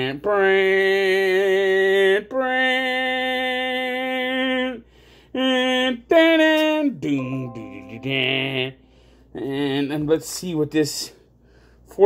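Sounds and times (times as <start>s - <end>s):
man singing long held notes: 0.0s - 10.0s.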